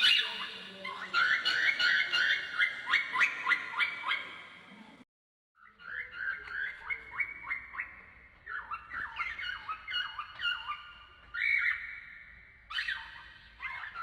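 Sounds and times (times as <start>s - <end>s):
cockatiel chirping: 0.0s - 4.3s, 5.7s - 14.0s.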